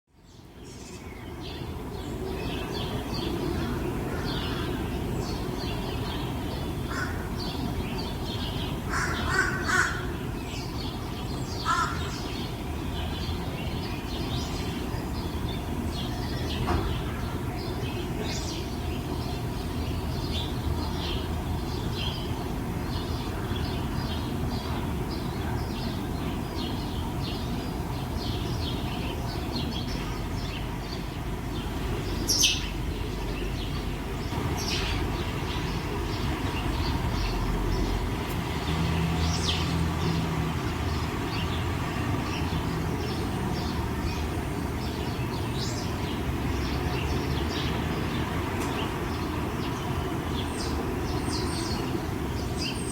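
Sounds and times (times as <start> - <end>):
small birds chirping: 0.2 - 52.9.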